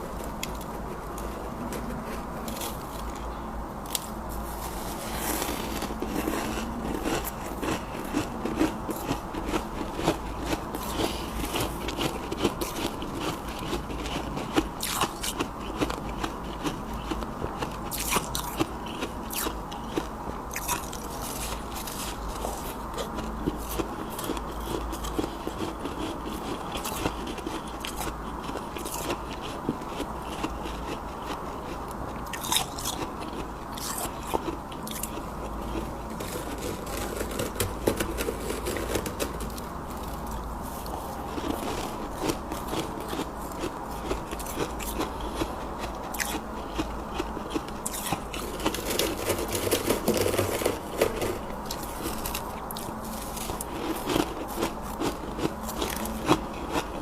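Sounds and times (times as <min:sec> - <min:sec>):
chewing crunchy frost: 0:00.0 - 0:57.0.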